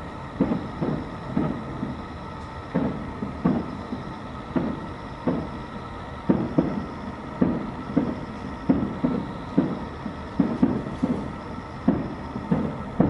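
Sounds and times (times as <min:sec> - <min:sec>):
distant fireworks booming: 0:00.0 - 0:13.0.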